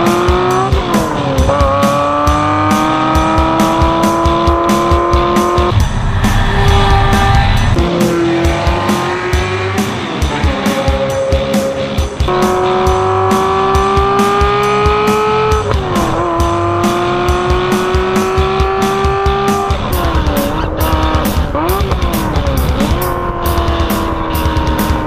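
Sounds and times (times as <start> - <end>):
background music with steady beat: 0.0 - 25.0
car engine revving: 0.0 - 25.0.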